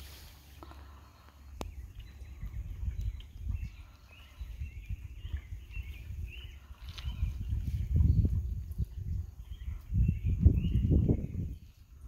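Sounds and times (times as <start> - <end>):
birds chirping: 0.0 - 12.0
gusty low rumble: 1.6 - 12.0.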